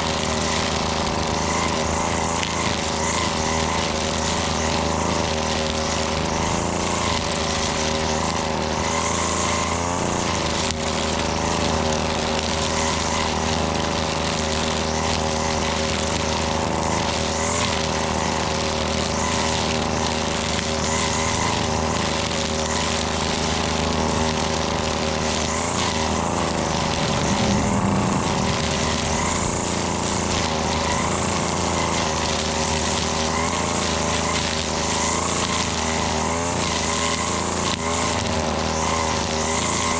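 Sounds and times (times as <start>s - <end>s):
string trimmer engine running: 0.0s - 39.9s.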